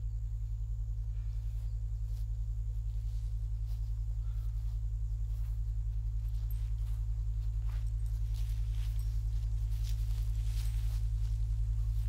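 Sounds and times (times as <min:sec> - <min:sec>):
faint ticks and rustles: 0:00.0 - 0:12.0
low pulsing drone: 0:00.0 - 0:12.0.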